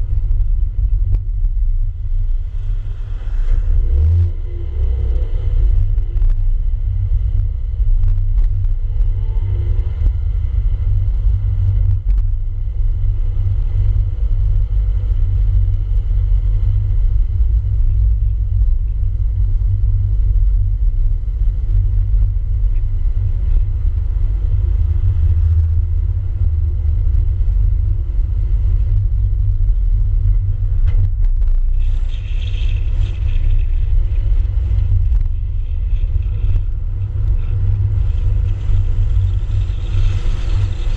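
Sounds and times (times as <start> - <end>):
car driving rumble: 0.0 - 40.9
road and wind noise: 0.0 - 40.9.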